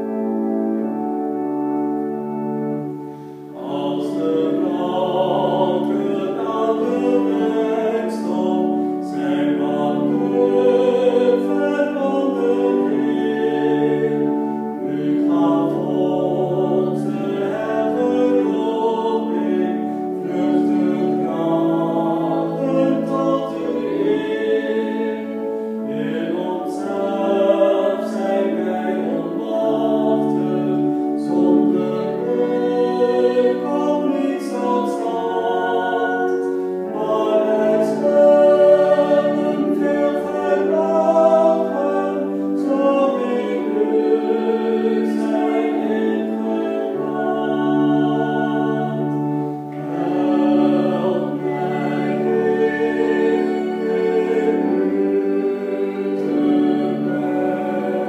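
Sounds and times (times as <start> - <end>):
organ chords: 0.0 - 58.0
man and woman singing a hymn: 2.9 - 58.0.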